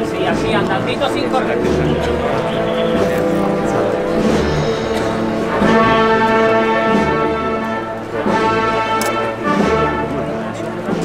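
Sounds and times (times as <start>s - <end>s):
brass band playing a slow march: 0.0s - 11.0s
low drum beats: 0.0s - 11.0s.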